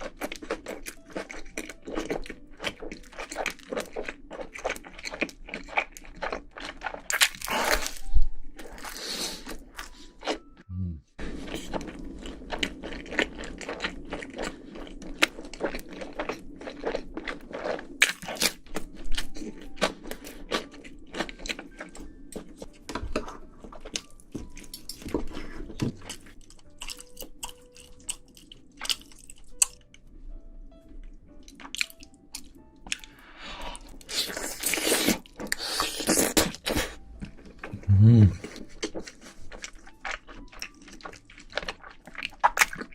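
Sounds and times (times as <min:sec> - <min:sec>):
chewing and crunching food: 0:00.0 - 0:10.6, 0:11.2 - 0:30.1, 0:30.8 - 0:42.9.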